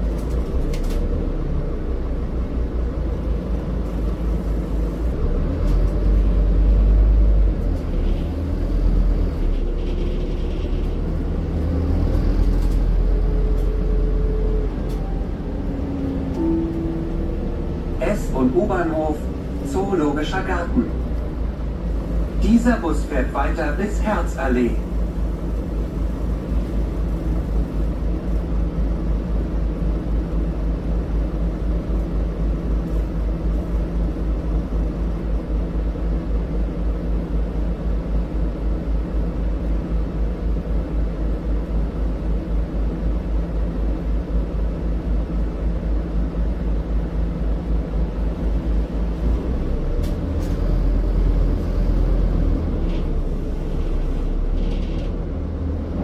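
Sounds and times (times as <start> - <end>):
bus diesel engine throbbing: 0.0 - 56.0.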